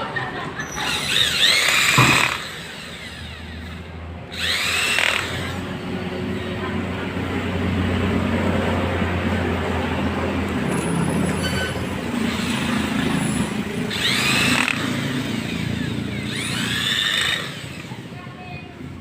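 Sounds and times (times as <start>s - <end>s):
angle grinder running roughly: 0.6s - 8.3s, 10.4s - 18.4s.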